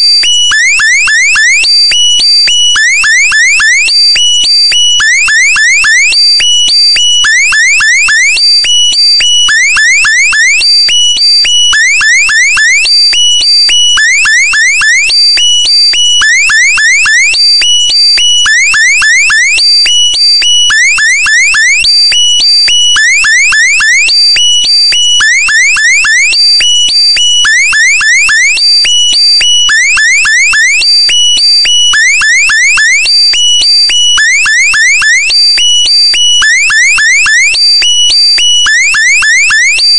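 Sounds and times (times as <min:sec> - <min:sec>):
shrill held electronic tones: 0:00.0 - 0:39.9.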